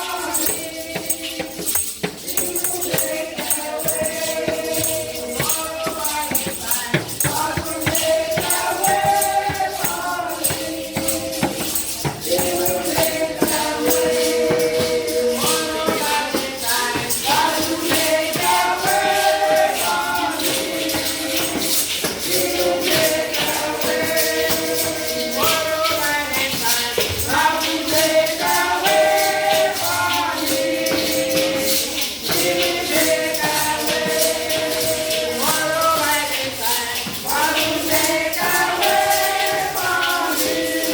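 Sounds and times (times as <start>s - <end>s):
group of voices singing: 0.0s - 40.9s
jingling hand percussion: 0.0s - 40.9s.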